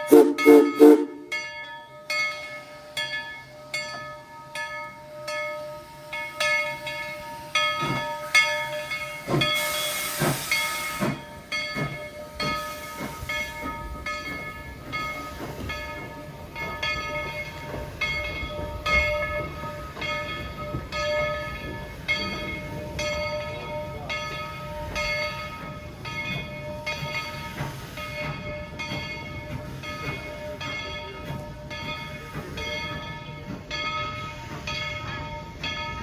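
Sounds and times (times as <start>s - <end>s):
locomotive bell ringing: 0.0s - 36.0s
train rolling rumble: 0.0s - 36.0s.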